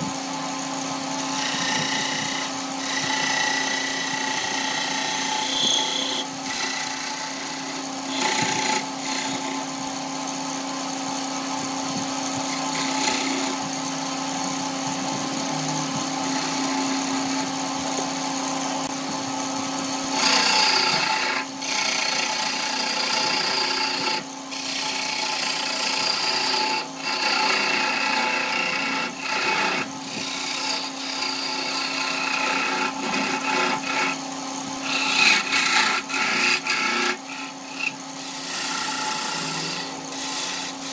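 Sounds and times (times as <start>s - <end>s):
lathe motor hum: 0.0s - 40.9s
tool scraping spinning wood: 0.0s - 40.9s.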